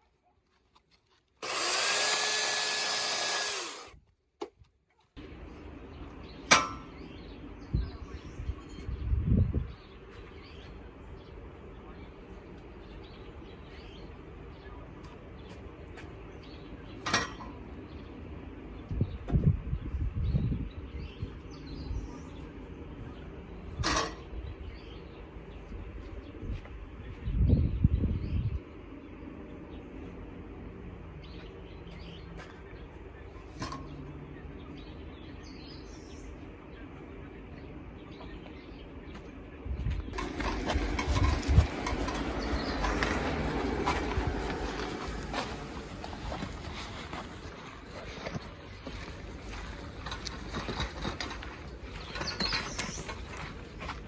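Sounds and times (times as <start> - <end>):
low outdoor hum: 0.1 - 54.0
birds chirping faintly: 5.1 - 54.0.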